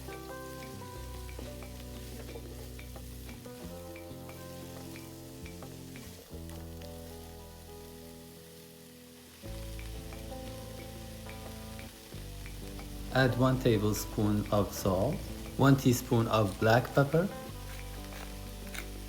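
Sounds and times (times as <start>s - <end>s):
stirring in a pot: 0.0s - 6.7s, 9.5s - 19.0s
background music with low chords: 0.0s - 19.0s
vegetables sizzling in oil: 0.0s - 19.0s.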